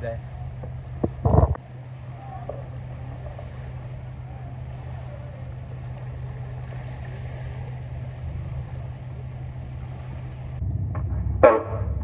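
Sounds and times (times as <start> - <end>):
boat engine humming: 0.0 - 12.0
low rumble: 0.0 - 12.0.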